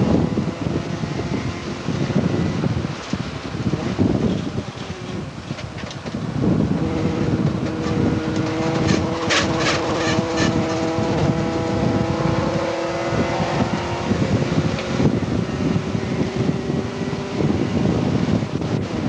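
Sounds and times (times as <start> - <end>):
car engine pulling: 0.0 - 19.0
road and wind noise: 0.0 - 19.0.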